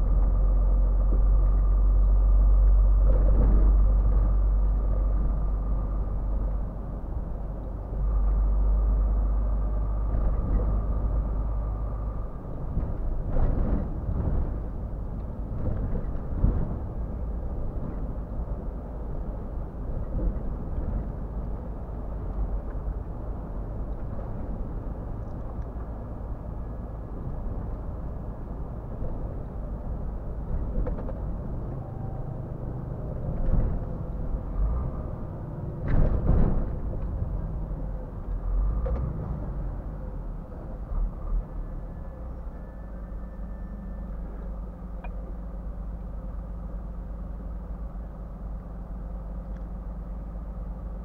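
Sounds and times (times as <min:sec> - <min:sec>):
truck engine and road rumble: 0:00.0 - 0:51.0.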